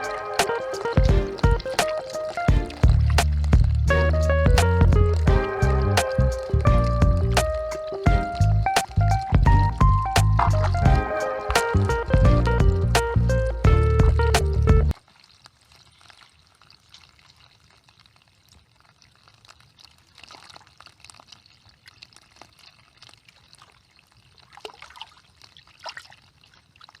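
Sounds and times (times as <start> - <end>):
water splashing and trickling: 0.0 - 27.0.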